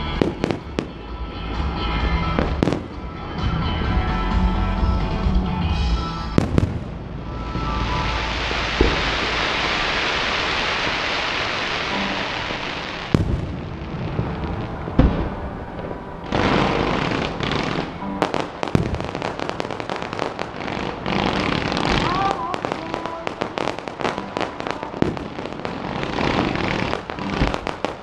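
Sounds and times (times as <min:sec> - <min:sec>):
fireworks hissing crackle: 0:00.0 - 0:01.1, 0:05.8 - 0:28.0
fireworks crackling and popping: 0:00.0 - 0:01.2, 0:02.2 - 0:03.0, 0:06.3 - 0:28.0
fireworks booms: 0:00.2 - 0:01.0, 0:06.3 - 0:28.0.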